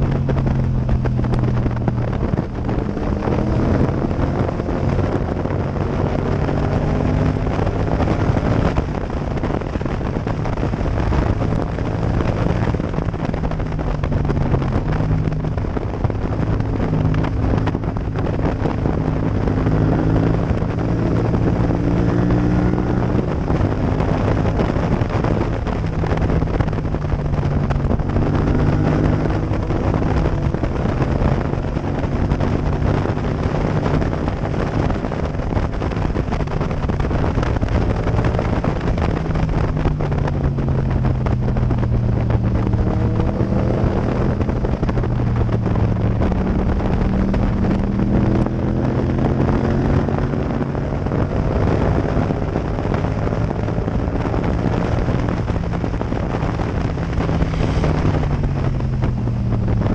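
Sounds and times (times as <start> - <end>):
motorcycle engine running hard: 0.0 - 59.9
wind rushing over microphone: 0.0 - 59.9.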